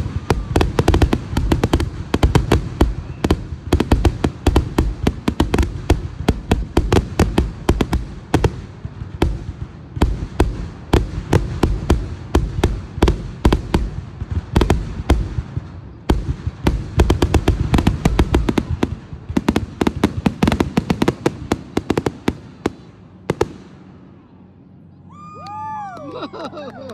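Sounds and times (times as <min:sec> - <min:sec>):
fireworks bangs and crackles: 0:00.0 - 0:24.4.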